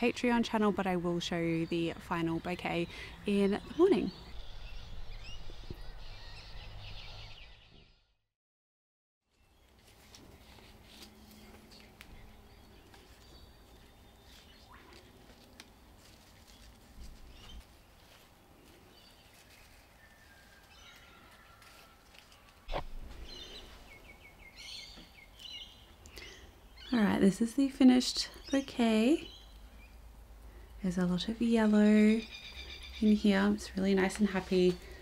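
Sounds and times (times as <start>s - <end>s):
faint birds chirping: 0.0s - 8.2s, 9.3s - 35.0s.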